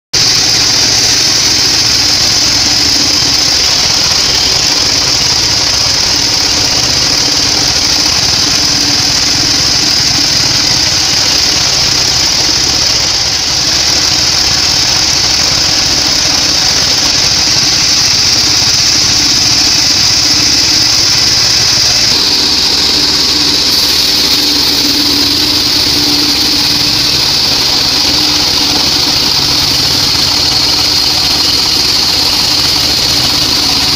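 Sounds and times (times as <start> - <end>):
bandsaw sawing timber hiss: 0.2 - 33.9
drive motor drone: 0.2 - 33.9.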